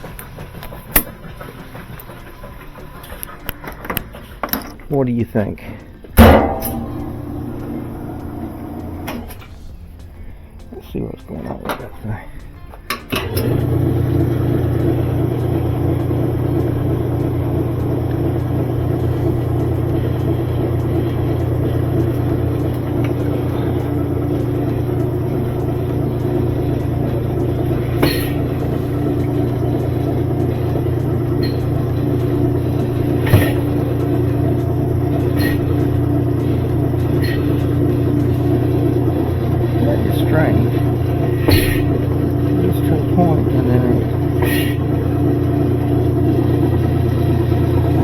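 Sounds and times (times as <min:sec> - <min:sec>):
washing machine motor hum: 0:00.0 - 0:48.0.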